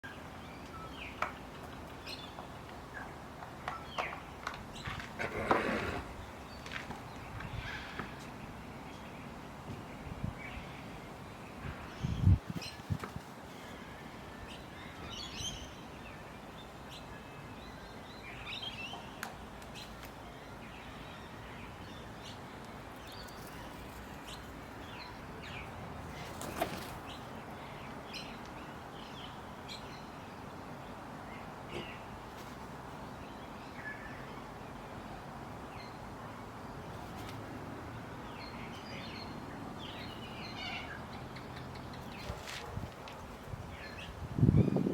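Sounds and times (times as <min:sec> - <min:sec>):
birds chirping: 0:00.0 - 0:44.9
steady background hiss: 0:00.1 - 0:44.9.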